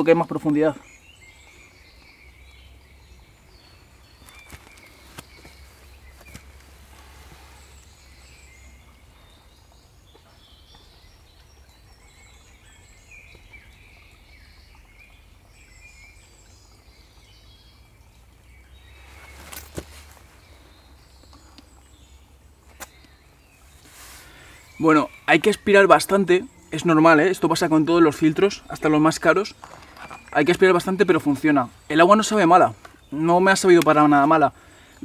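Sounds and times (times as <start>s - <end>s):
birds chirping faintly: 0.0s - 35.0s.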